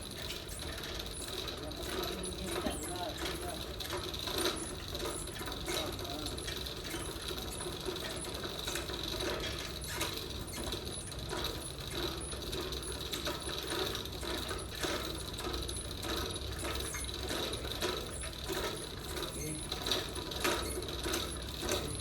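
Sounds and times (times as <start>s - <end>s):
chain hoist ratchet clicking: 0.0s - 22.0s.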